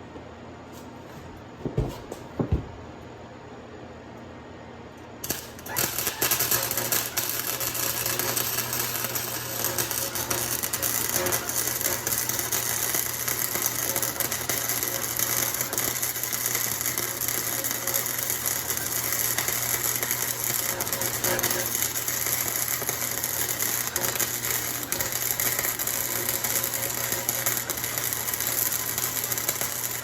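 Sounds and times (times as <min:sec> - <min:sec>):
welder low hum: 0:05.2 - 0:30.0
welding arc crackling: 0:05.2 - 0:30.0.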